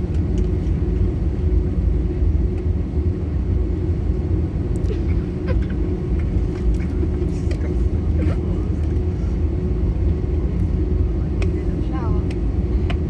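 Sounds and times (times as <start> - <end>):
airliner cabin engine rumble: 0.0 - 13.0
constant hum: 0.0 - 13.0.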